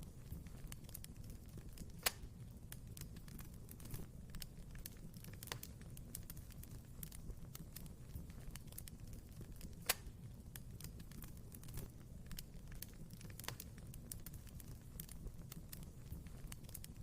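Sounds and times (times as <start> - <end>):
fire rumbling: 0.0 - 17.0
wood fire crackling and popping: 0.0 - 17.0.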